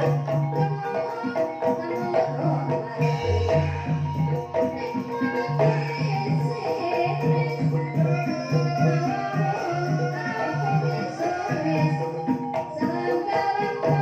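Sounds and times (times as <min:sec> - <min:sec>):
gamelan ensemble playing: 0:00.0 - 0:14.0.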